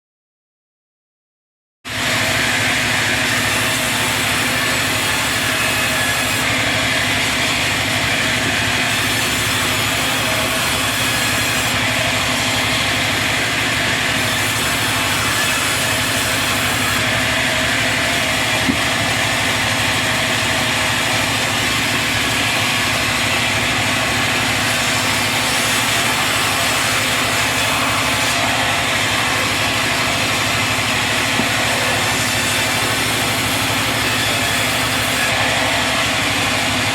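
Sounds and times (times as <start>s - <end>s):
sawmill machinery humming: 1.9s - 36.9s.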